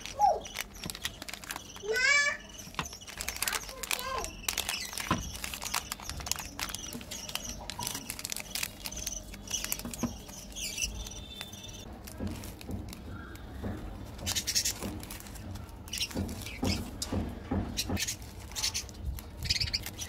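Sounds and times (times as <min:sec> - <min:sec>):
plastic wrappers crinkling: 0:00.0 - 0:17.0, 0:17.9 - 0:20.0.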